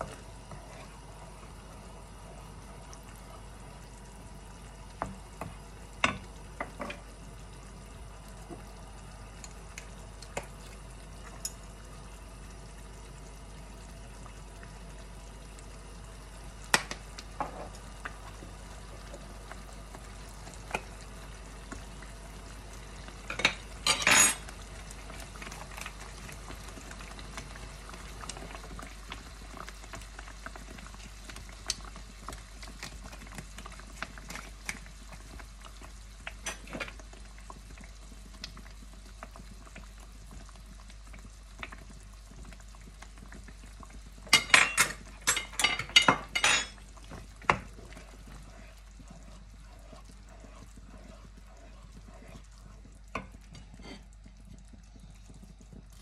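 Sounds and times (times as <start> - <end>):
sauce bubbling in a pan: 0.0 - 56.0.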